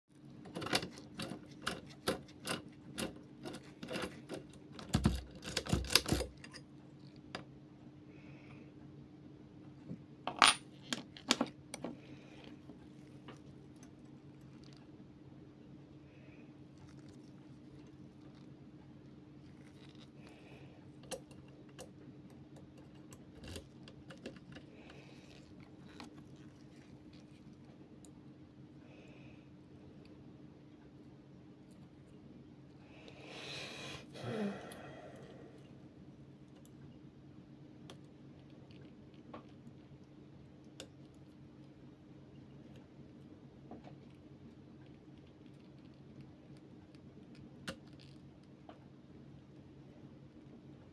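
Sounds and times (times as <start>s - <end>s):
faint steady hum: 0.1s - 50.9s.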